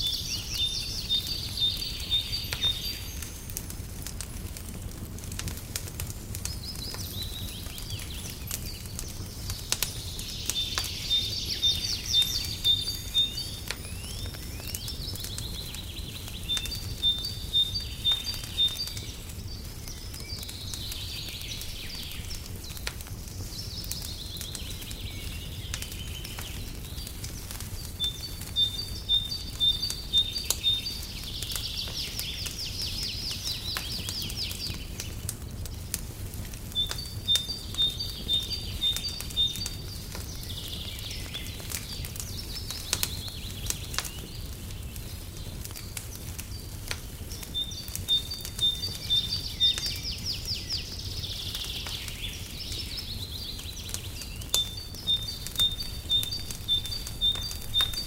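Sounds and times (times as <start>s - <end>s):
fire rumbling and crackling: 0.0s - 58.0s
songbird singing: 0.0s - 58.0s.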